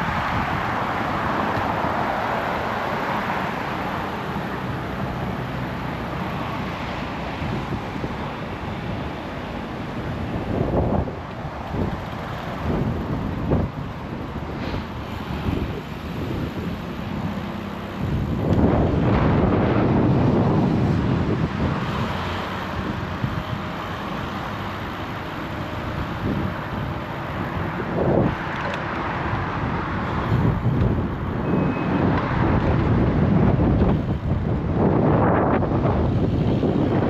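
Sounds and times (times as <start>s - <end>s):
street traffic passing: 0.0s - 37.0s
wind over microphone: 0.0s - 37.0s.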